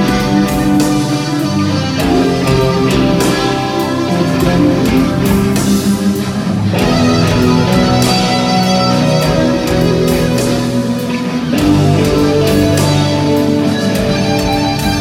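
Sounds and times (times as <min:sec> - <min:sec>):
electric guitar lead lines: 0:00.0 - 0:15.0
live hard rock band: 0:00.0 - 0:15.0.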